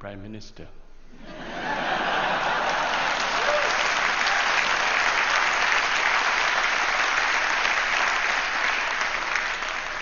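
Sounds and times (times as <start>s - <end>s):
audience applause: 1.6s - 10.0s.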